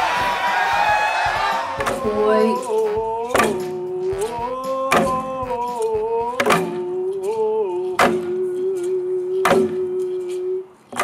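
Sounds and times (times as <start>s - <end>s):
held instrumental chords: 0.0s - 10.0s.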